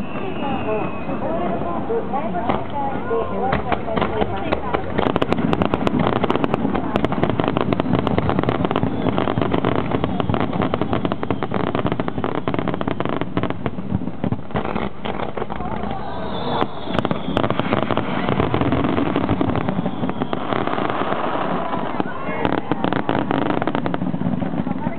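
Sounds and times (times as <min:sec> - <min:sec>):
fireworks crackling: 0:00.0 - 0:24.9
loud firework bangs: 0:03.3 - 0:24.9.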